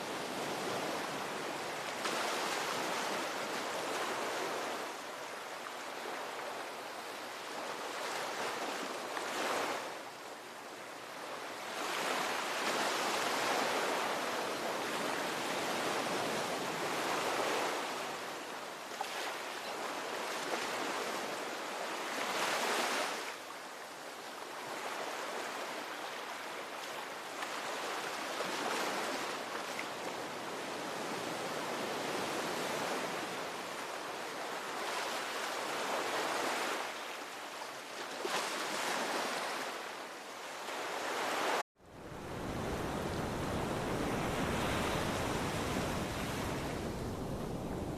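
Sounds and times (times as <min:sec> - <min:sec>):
ocean waves breaking on shore: 0:00.0 - 0:47.9.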